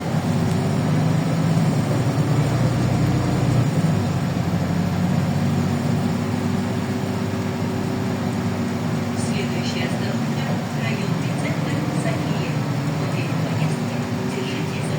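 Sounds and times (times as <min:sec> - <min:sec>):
bus engine droning: 0:00.0 - 0:14.9.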